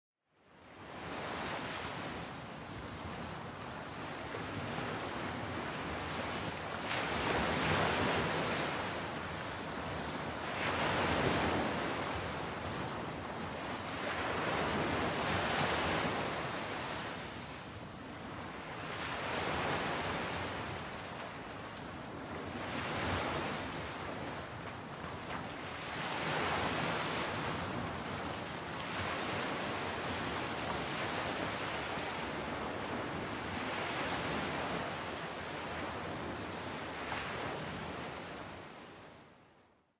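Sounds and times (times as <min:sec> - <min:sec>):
surf breaking on a beach: 0:00.9 - 0:39.0.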